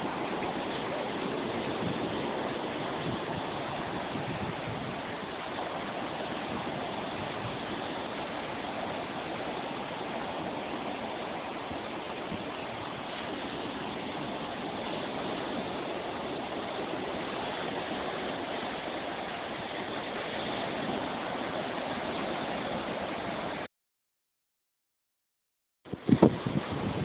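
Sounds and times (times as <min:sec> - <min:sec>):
sea waves washing on beach: 0:00.0 - 0:23.7, 0:25.9 - 0:27.0.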